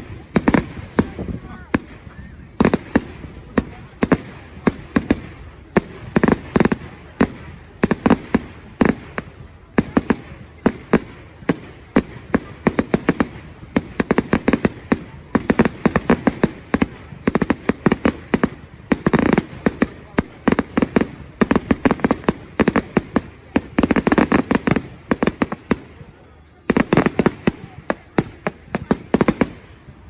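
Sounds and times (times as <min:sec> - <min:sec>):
fireworks bangs: 0:00.0 - 0:30.0
fireworks crackling bursts: 0:00.0 - 0:30.0.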